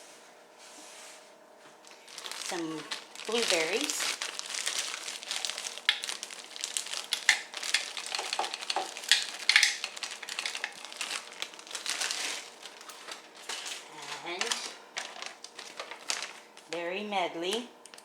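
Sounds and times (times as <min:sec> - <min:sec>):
plastic bag crinkling: 0:01.8 - 0:18.0
berries clattering into container: 0:01.9 - 0:16.7.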